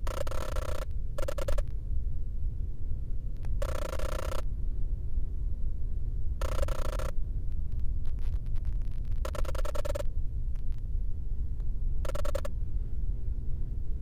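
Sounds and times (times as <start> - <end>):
low ambient drone: 0.0 - 14.0.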